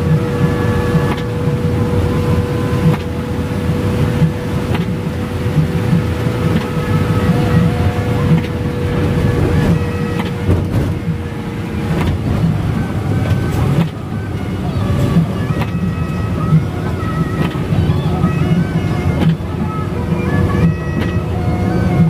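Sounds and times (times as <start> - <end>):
rain and spray hiss: 0.0 - 17.7
bus engine and road rumble: 0.0 - 22.0
faint steady whine: 0.0 - 22.0.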